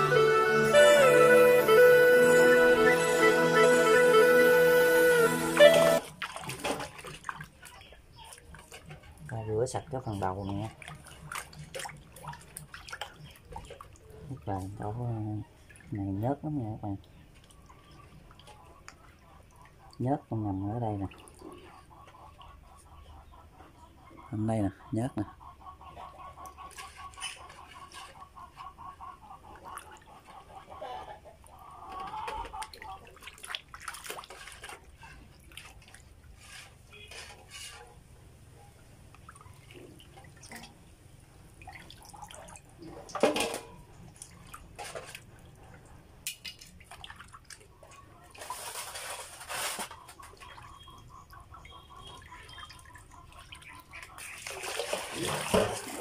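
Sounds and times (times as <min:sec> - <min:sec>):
hands rubbing and rinsing duck: 0:05.6 - 0:24.0, 0:25.4 - 0:38.0, 0:41.6 - 0:56.0
water sloshing in a steel basin: 0:06.0 - 0:56.0.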